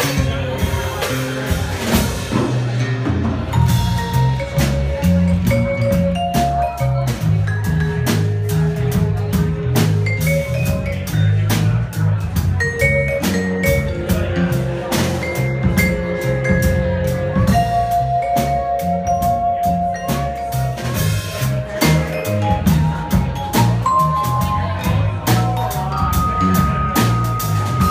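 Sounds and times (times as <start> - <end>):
drum kit beating: 0.0 - 27.9
stepping bass line: 0.0 - 27.9
long held melodic notes: 3.5 - 27.9.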